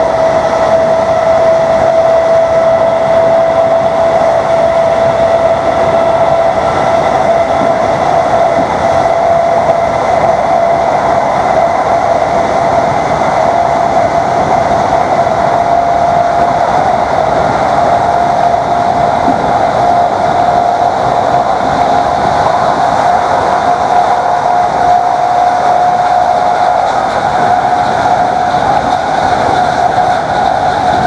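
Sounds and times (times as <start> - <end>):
electric train motors whining: 0.0 - 31.0
train wheels on rails: 0.0 - 31.0.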